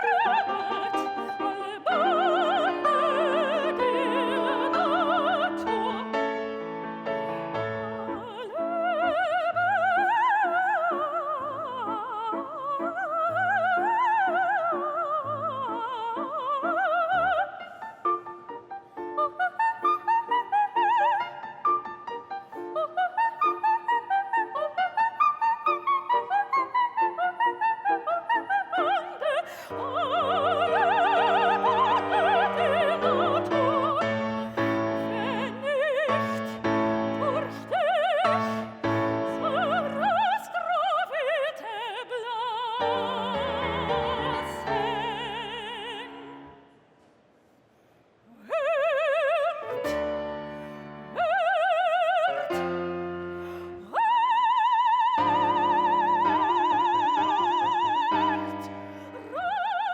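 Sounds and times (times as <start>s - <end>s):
classical instrumental accompaniment: 0.0s - 41.9s, 42.7s - 46.6s, 49.6s - 59.8s
operatic singing high voice: 0.0s - 46.7s, 48.3s - 59.9s.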